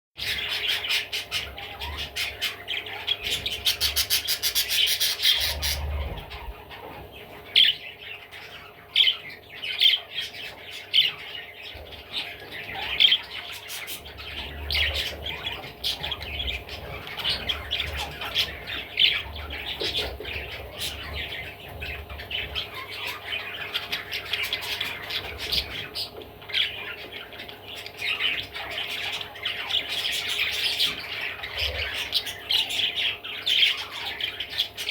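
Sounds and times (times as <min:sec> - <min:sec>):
budgerigar chattering: 0:00.2 - 0:34.9.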